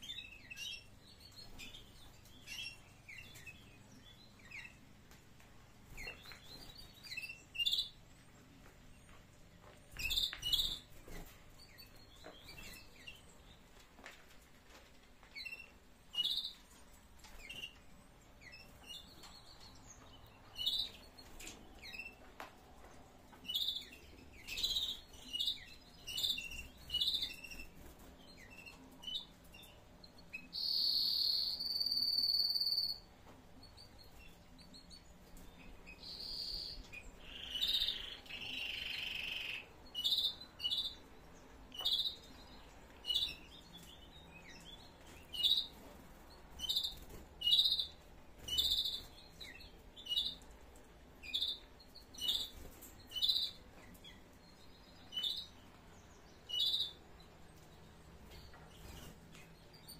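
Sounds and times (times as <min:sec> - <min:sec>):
canaries chirping: 0:00.0 - 0:14.1, 0:14.7 - 0:59.9.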